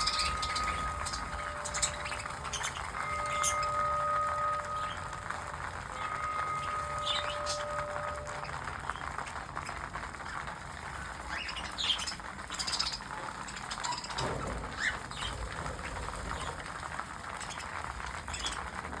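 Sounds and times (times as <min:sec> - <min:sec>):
parrots chirping and chattering: 0:00.0 - 0:19.0
steady background noise: 0:00.0 - 0:19.0.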